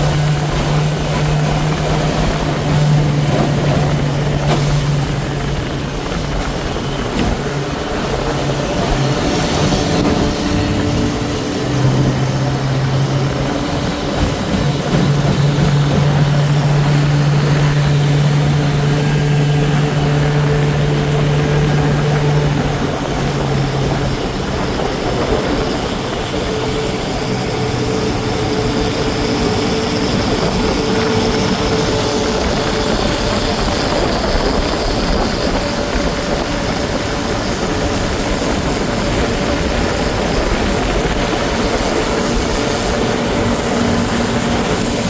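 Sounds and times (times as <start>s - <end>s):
outboard motor running: 0.0s - 45.0s
wind and water rushing: 0.0s - 45.0s.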